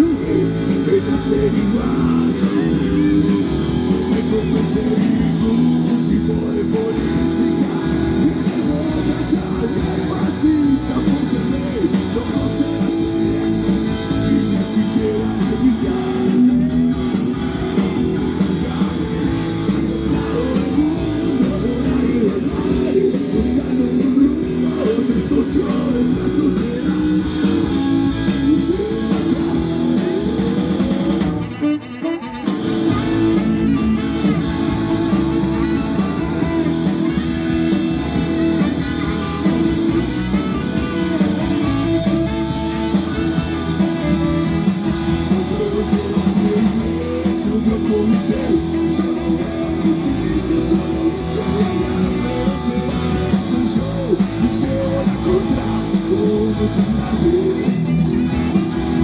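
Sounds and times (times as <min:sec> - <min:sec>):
rock band instrumental: 0:00.0 - 0:59.0.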